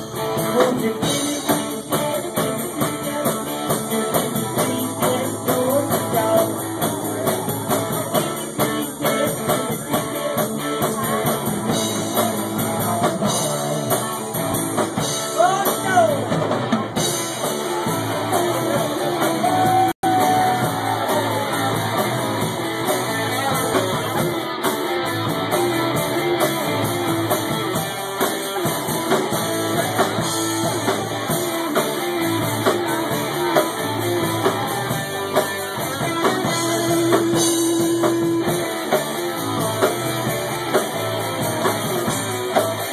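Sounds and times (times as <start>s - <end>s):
drum kit: 0.0s - 42.9s
electric guitar: 0.0s - 42.9s.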